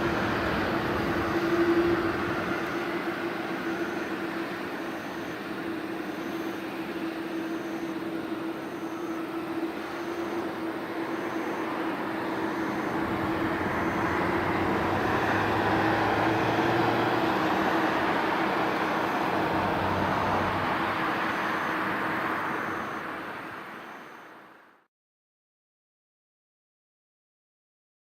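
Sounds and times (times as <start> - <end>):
jet airliner engine noise: 0.0 - 24.8.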